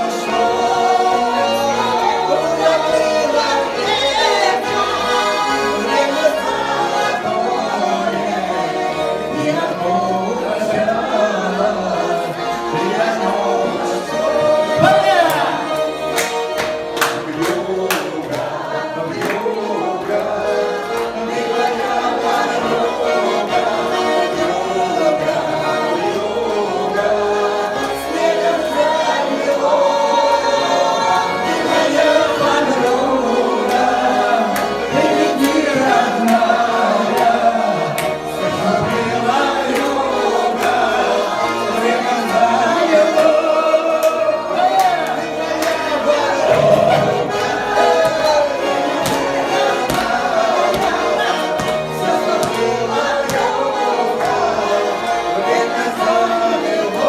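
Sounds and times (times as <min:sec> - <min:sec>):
button accordion: 0:00.0 - 0:57.0
voices singing a folk song: 0:00.0 - 0:57.0.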